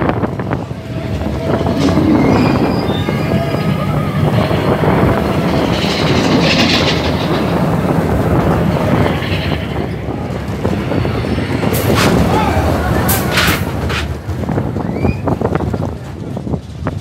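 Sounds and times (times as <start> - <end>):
roller coaster cars rolling on track: 0.0 - 17.0.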